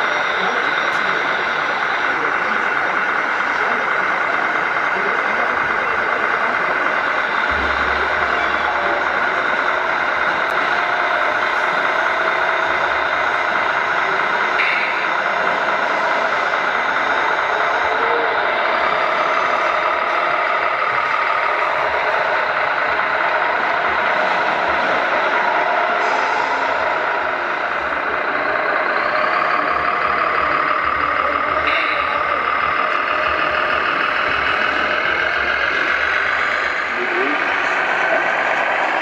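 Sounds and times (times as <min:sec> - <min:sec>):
model truck engine noise: 0:00.0 - 0:39.0.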